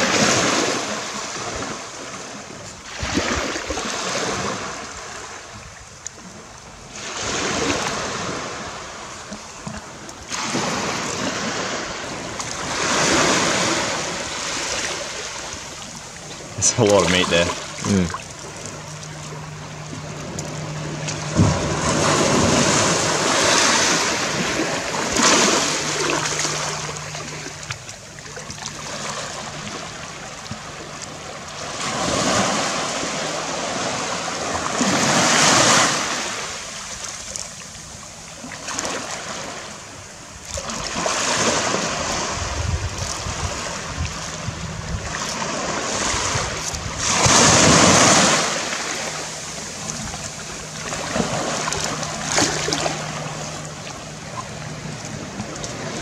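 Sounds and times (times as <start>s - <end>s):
waves washing onto shore: 0.0s - 56.0s.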